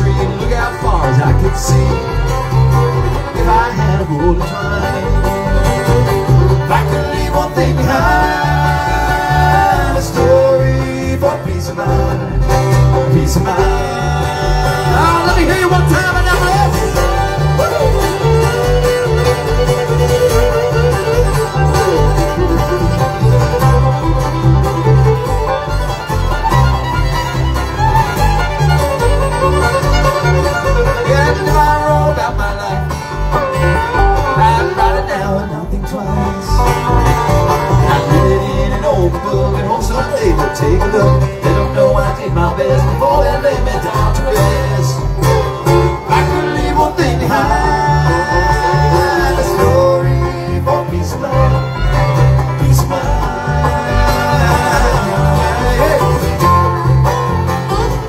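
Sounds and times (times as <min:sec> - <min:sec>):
acoustic guitar: 0:00.0 - 0:58.0
banjo rolls: 0:00.0 - 0:58.0
fiddle melody: 0:00.0 - 0:58.0
upright bass pulse: 0:00.0 - 0:58.0.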